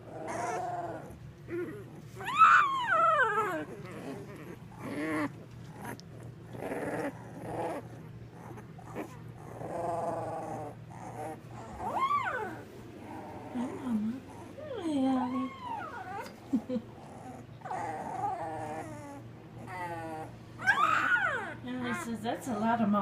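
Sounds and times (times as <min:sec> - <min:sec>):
puppies whimpering and squealing: 0:00.0 - 0:22.6.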